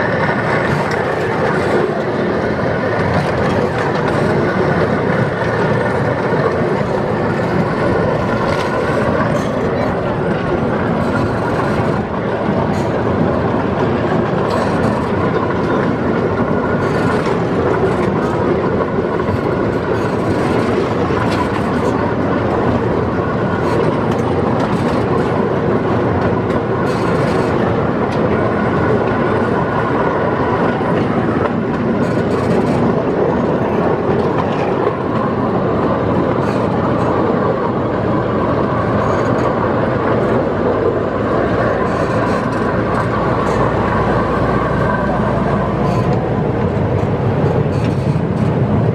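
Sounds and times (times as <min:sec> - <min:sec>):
miniature train rumbling on rails: 0:00.0 - 0:48.9.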